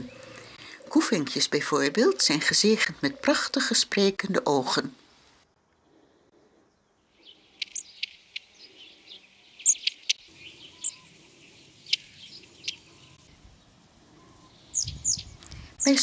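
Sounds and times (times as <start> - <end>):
small birds chirping: 0.0 - 4.1, 5.0 - 16.0
faint field ambience: 0.0 - 16.0.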